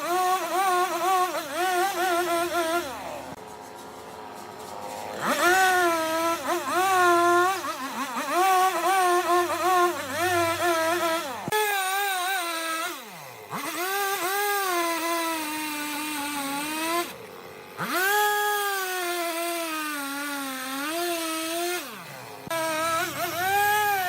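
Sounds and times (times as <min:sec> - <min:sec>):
woodworking power tool motor: 0:00.0 - 0:24.0.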